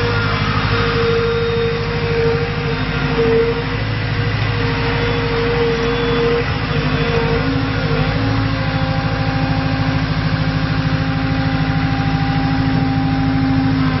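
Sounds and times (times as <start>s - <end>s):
diesel engine running: 0.0s - 14.0s
engine whine: 0.0s - 14.0s.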